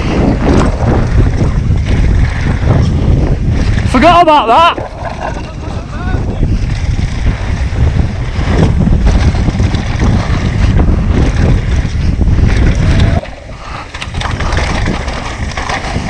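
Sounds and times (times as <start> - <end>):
bike rattling over dirt and rock: 0.0 - 16.0
wind rushing over microphone: 0.0 - 16.0.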